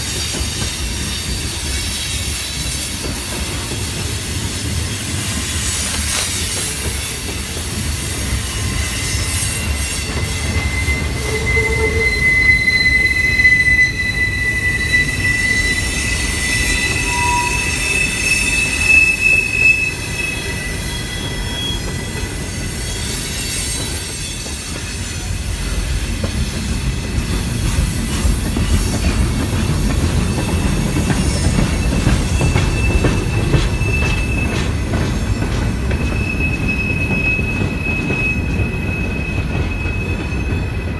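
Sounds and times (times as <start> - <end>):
train wheels rumbling on rail: 0.0 - 40.9
high thin wheel squeal: 0.5 - 25.8, 28.5 - 35.0, 35.8 - 40.9.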